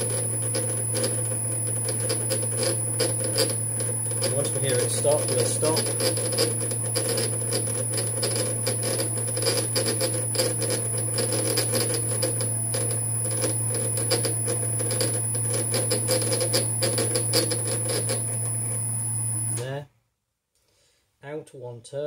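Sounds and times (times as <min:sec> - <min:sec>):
lathe motor hum: 0:00.0 - 0:19.6.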